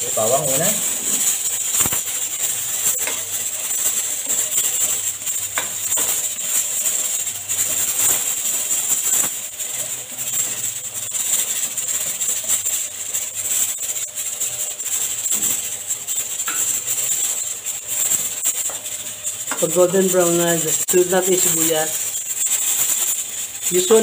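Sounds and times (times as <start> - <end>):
garlic sizzling in hot oil: 0.0 - 24.0.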